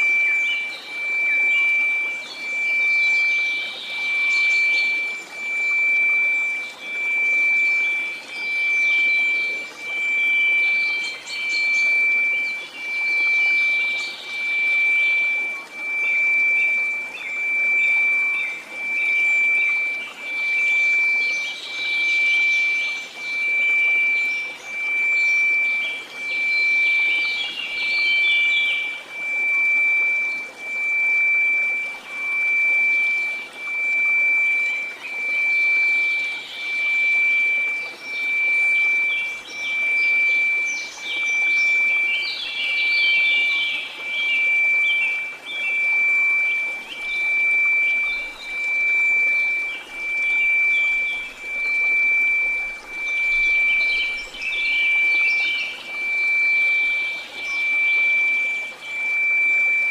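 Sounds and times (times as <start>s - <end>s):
pulsing sine tone: 0.0s - 59.9s.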